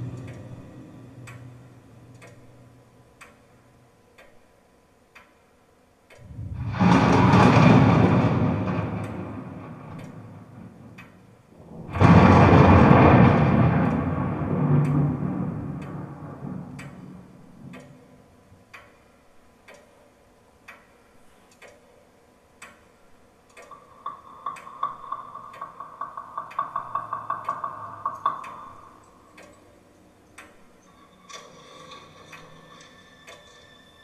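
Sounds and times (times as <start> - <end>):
clock ticking: 0.0 - 34.0.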